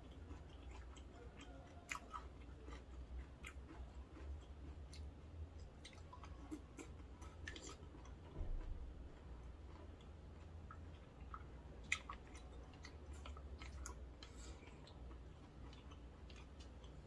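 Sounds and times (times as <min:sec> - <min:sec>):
steady low hum: 0:00.0 - 0:17.0
wet chewing of noodles: 0:00.0 - 0:17.0.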